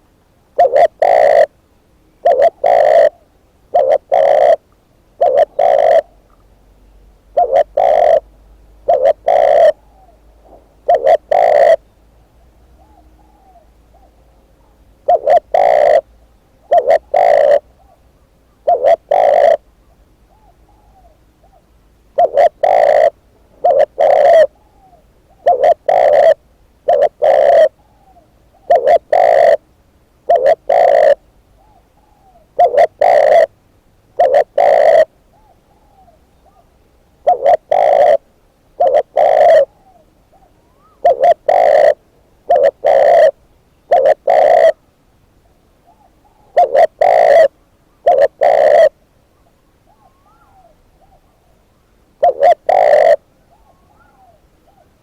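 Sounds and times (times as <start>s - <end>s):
dove cooing: 0.0s - 1.6s, 2.2s - 6.5s, 7.3s - 33.6s, 34.2s - 44.9s, 45.8s - 51.6s, 52.2s - 55.0s.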